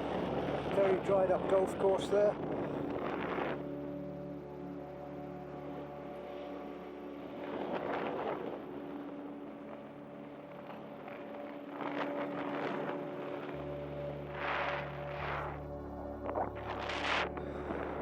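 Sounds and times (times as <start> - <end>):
wind rushing over microphone: 0.0 - 5.0, 6.0 - 18.0
ambient drone music: 0.0 - 18.0.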